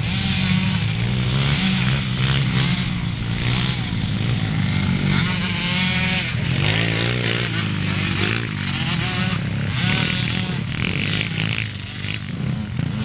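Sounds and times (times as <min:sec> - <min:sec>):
motorcycle and atv engines revving: 0:00.0 - 0:13.0.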